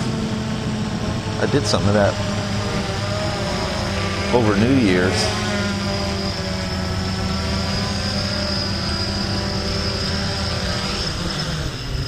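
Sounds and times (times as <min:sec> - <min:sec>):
quadcopter motors humming: 0:00.0 - 0:12.0.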